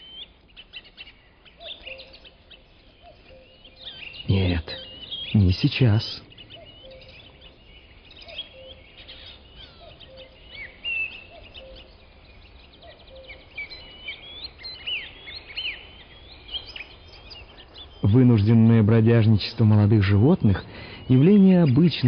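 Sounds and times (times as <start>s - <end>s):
background hiss: 0.0s - 22.0s
small birds chirping and singing: 0.0s - 22.0s.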